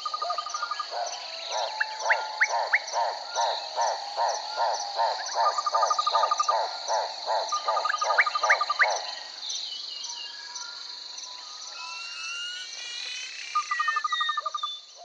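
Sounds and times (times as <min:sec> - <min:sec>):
rapid pulsing frog calls: 0:00.0 - 0:09.5, 0:12.2 - 0:14.9
high insect drone: 0:00.0 - 0:15.0.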